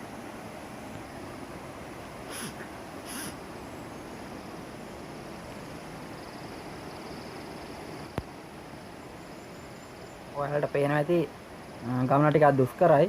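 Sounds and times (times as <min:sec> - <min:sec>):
faint insect trill: 0:00.0 - 0:13.0
rushing outdoor ambience: 0:00.0 - 0:13.0.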